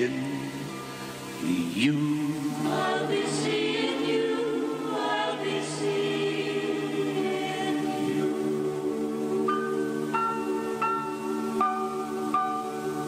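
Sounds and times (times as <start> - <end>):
voices singing sustained chords: 0.0 - 13.0.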